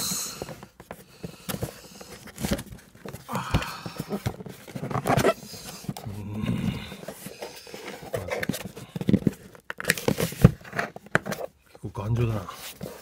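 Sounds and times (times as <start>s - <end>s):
cardboard box scraping and knocking: 0.3s - 11.5s.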